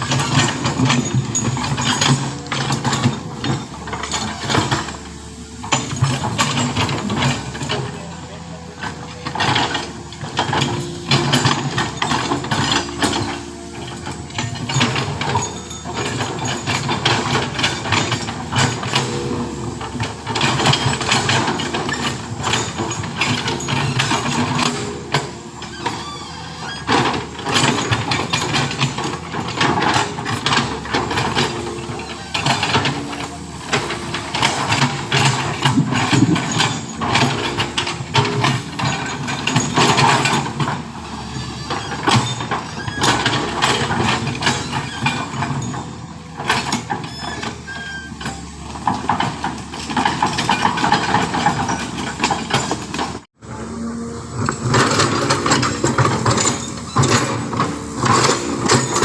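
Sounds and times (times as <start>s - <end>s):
heavy machinery engine running: 0.0s - 59.0s
metal and gravel clanking: 0.0s - 59.0s.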